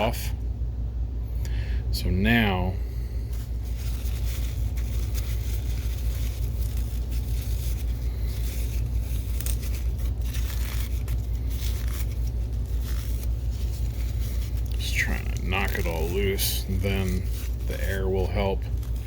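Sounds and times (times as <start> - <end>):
steady low hum: 0.0 - 19.0
scraping and rustling dust: 3.2 - 19.0.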